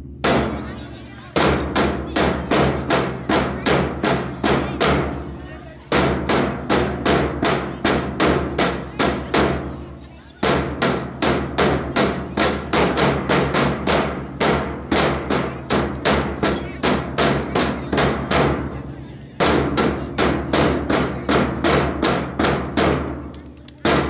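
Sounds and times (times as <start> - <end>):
sharp percussive beats: 0.0 - 24.0.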